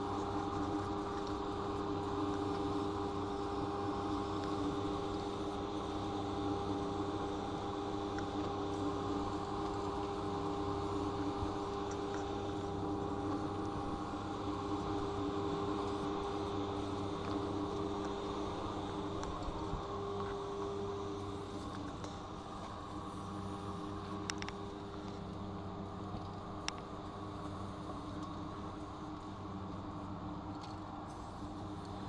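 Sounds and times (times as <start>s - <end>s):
train carriage mechanical hum: 0.0s - 32.0s.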